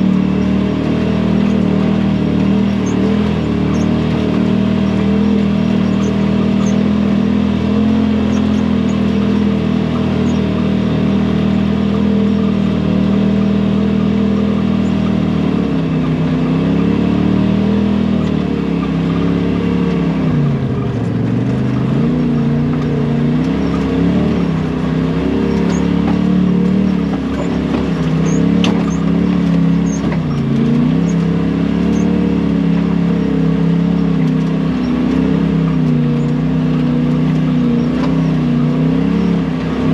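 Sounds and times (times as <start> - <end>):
utility vehicle engine revving: 0.0 - 39.9.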